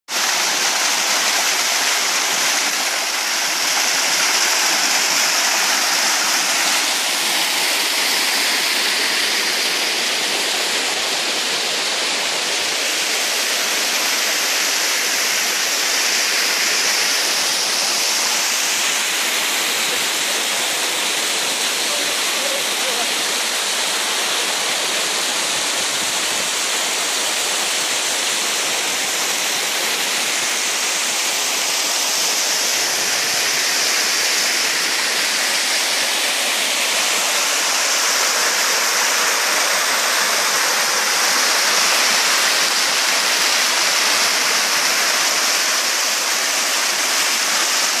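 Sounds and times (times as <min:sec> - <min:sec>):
waterfall rushing into pool: 0:00.0 - 0:48.0.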